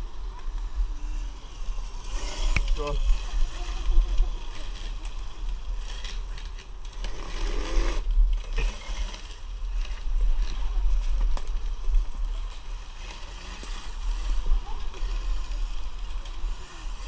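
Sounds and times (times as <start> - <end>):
electric motor and chain whir: 0.0 - 17.0.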